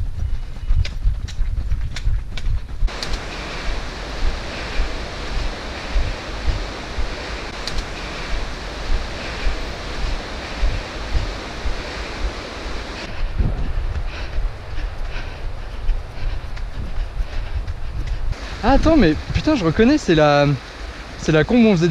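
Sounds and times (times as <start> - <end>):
soft footfalls hiking: 0.0 - 21.2
wind buffeting microphone: 0.0 - 21.9.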